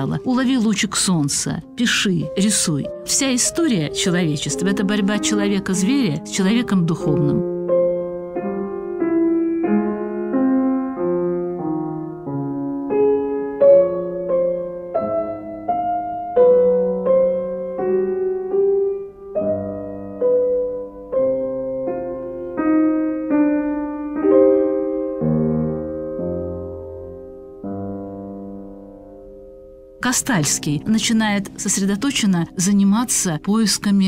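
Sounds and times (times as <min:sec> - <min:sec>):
slow solo piano piece: 0:00.0 - 0:33.9.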